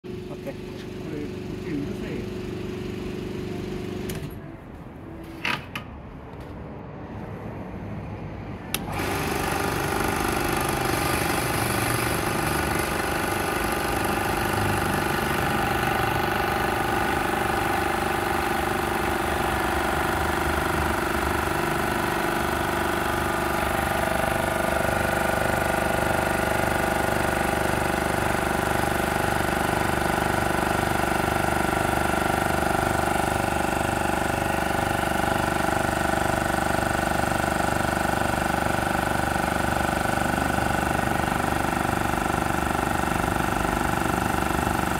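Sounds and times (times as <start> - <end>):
air compressor running: 0.0 - 4.5, 8.6 - 44.9.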